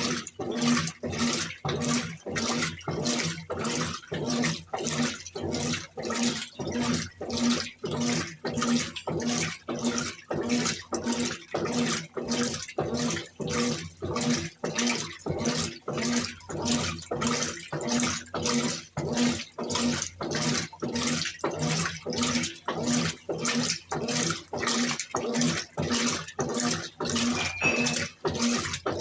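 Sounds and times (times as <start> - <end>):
washing machine sloshing water: 0.0 - 29.0.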